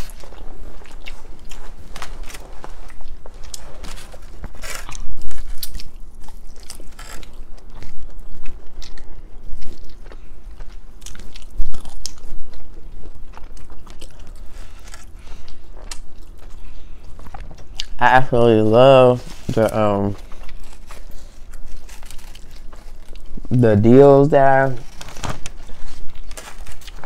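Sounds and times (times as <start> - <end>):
people chewing and biting: 0.0 - 18.0, 19.1 - 23.7, 24.8 - 27.0.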